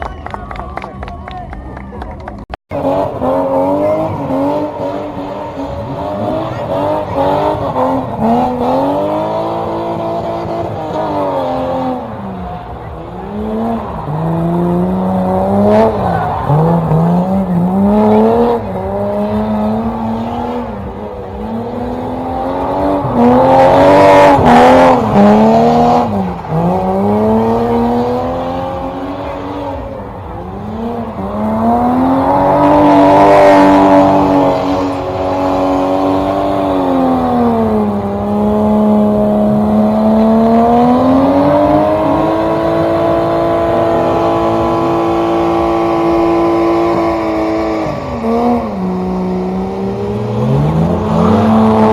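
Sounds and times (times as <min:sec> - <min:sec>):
car engine revving: 0:01.6 - 0:51.9.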